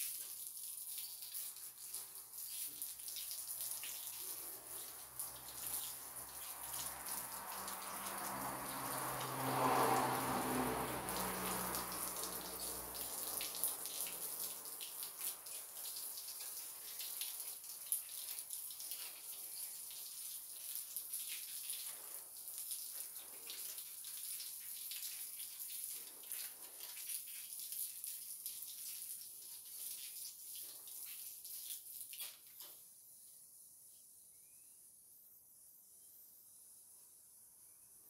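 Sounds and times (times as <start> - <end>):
hose water splashing on concrete: 0.0 - 33.6.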